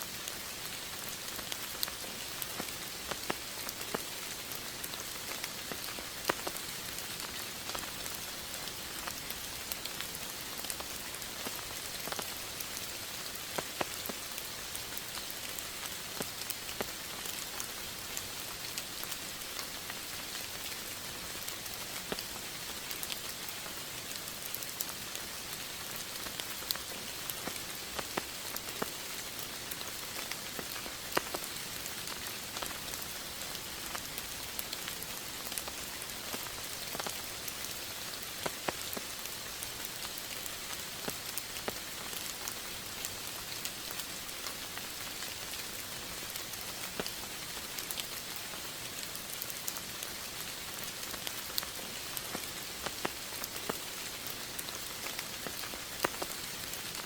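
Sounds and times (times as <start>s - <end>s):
steady rain falling: 0.0s - 57.0s
raindrops tapping a surface: 0.2s - 57.0s.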